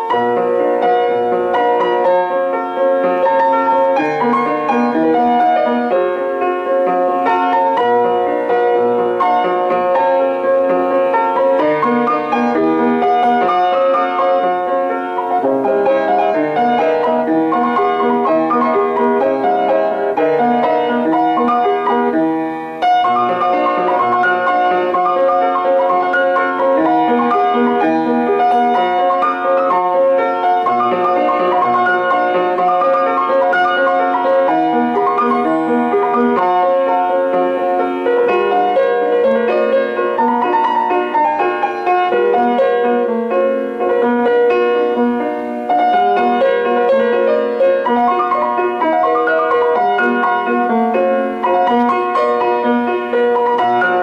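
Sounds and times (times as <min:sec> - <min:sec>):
piano melody: 0:00.0 - 0:54.0.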